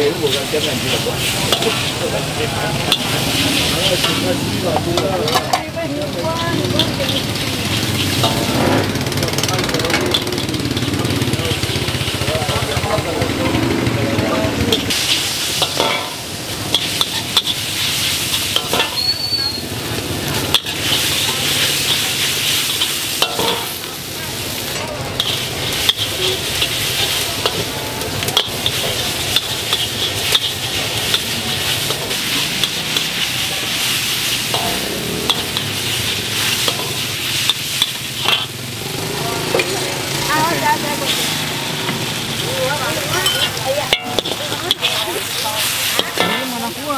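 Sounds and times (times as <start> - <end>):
spatula scraping a wok: 0.0 - 13.1, 14.5 - 46.9
noodles sizzling in a wok: 0.0 - 46.9.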